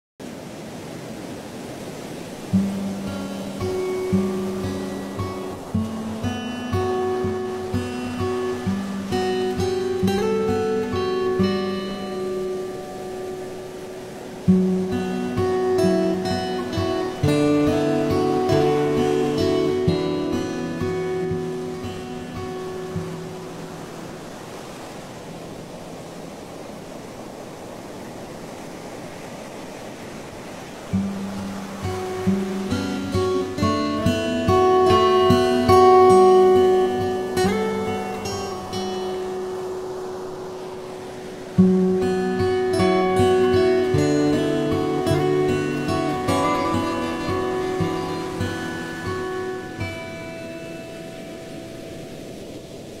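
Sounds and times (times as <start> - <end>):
steady rushing noise: 0.2 - 53.0
acoustic guitar plucking: 2.5 - 24.3, 30.9 - 52.4.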